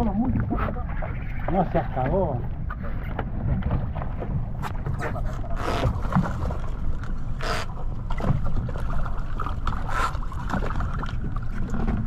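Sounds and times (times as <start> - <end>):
boat engine running: 0.0 - 12.0
wind and water noise: 0.0 - 12.0.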